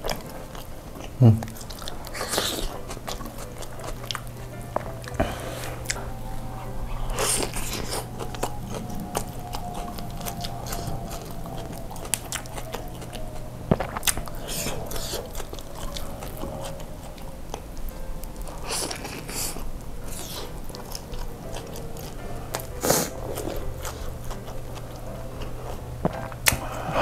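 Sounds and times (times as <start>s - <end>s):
background music: 0.0s - 27.0s
close chewing and wet mouth sounds: 0.0s - 27.0s.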